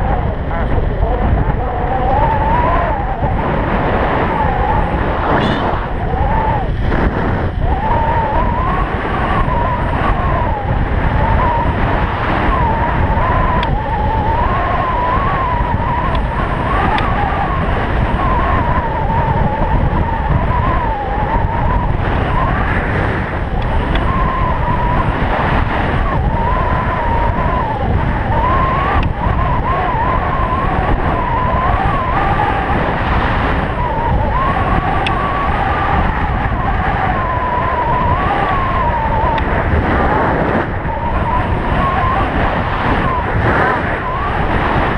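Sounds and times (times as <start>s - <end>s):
electric bike hub motor whining: 0.0s - 44.9s
wind rush on microphone: 0.0s - 44.9s.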